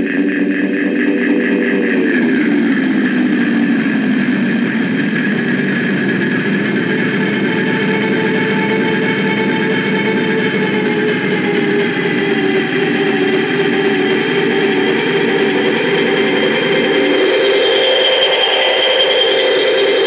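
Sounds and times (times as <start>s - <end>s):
guitar pedal drone through amp: 0.0s - 20.0s.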